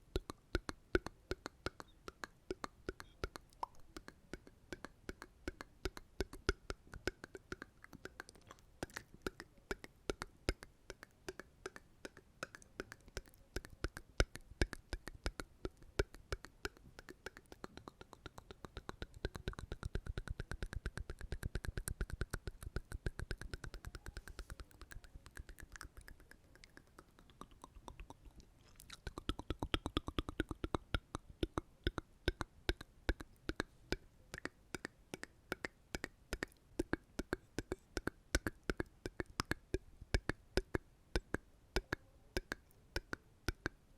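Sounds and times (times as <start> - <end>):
wet mouth and tongue clicks: 0.0 - 43.8.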